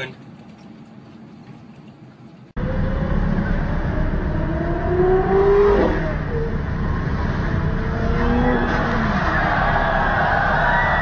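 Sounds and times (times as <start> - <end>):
race car engines running: 0.0 - 11.0
road noise inside moving car: 0.0 - 11.0.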